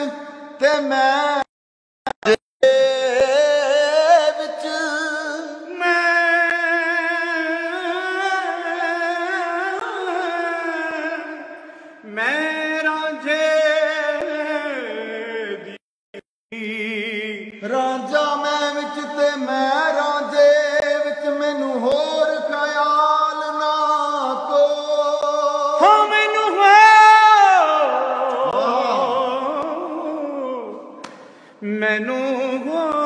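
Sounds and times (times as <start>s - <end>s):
man singing unaccompanied: 0.0s - 1.5s, 2.1s - 31.0s, 31.6s - 33.0s.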